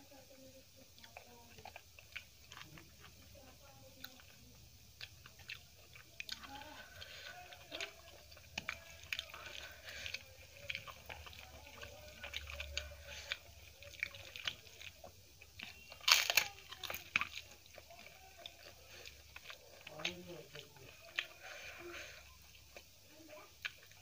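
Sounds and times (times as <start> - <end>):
chewing: 0.1 - 24.0
fingers squishing sticky food: 0.1 - 24.0.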